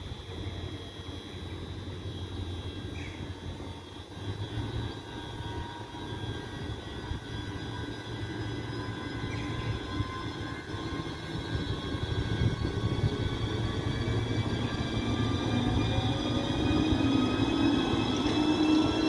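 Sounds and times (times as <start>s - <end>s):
electric locomotive whine: 0.0s - 19.0s
train low rumble: 0.0s - 19.0s.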